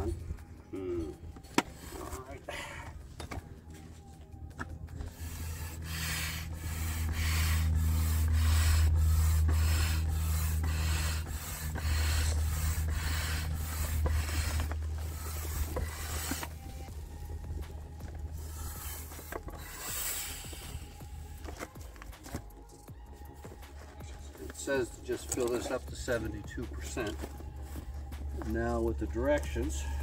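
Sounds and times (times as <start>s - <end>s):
hand air pump whooshing: 5.0s - 30.0s.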